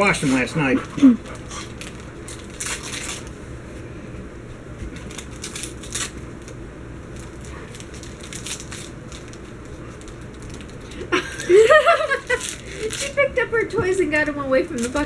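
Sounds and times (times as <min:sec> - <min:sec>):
wrapping paper rustling and tearing: 0:00.0 - 0:03.4, 0:04.9 - 0:15.0.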